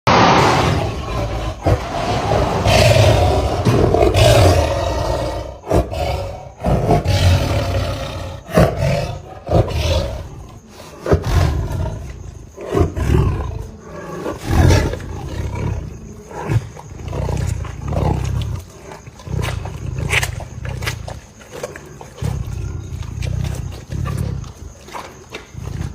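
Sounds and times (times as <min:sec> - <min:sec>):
big cat roaring and grunting: 0:00.1 - 0:25.9.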